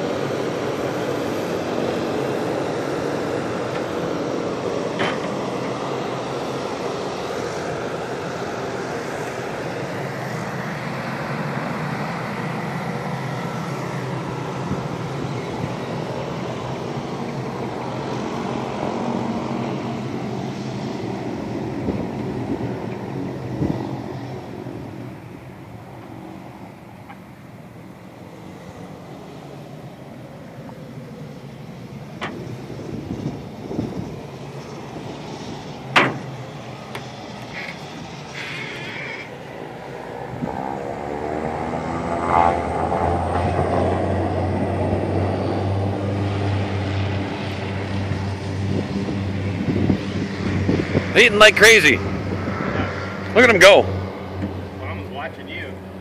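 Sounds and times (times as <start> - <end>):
engine drone with rushing noise: 0.0 - 56.0.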